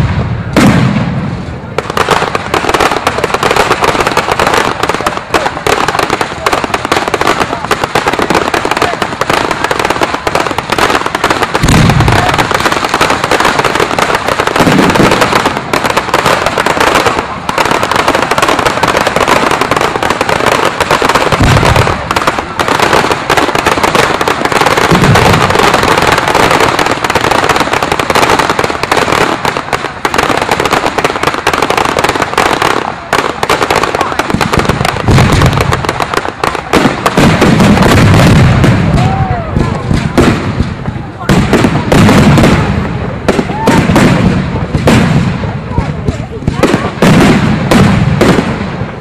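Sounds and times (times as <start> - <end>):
deep firework booms: 0.0 - 49.0
fireworks crackling and fizzing: 0.0 - 49.0.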